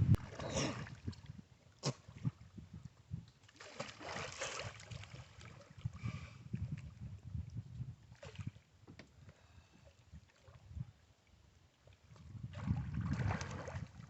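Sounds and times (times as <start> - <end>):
water splashing and sloshing: 0.0 - 2.6, 3.2 - 14.0.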